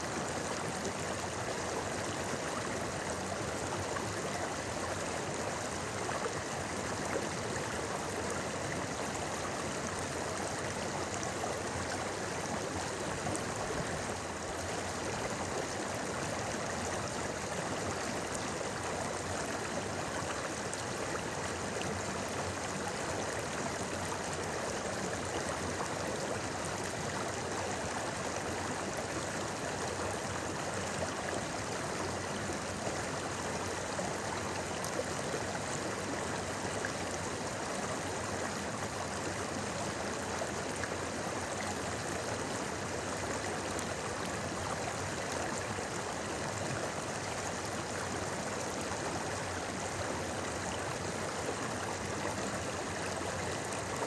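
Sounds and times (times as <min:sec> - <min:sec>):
river babbling over rocks: 0:00.0 - 0:54.0.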